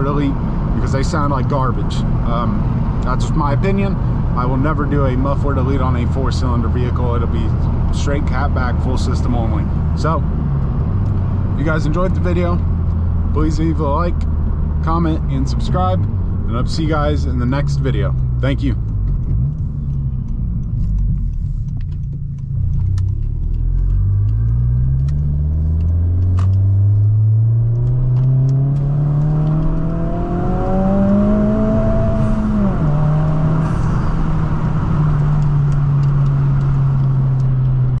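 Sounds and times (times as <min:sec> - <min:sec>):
car engine accelerating: 0:00.0 - 0:38.0.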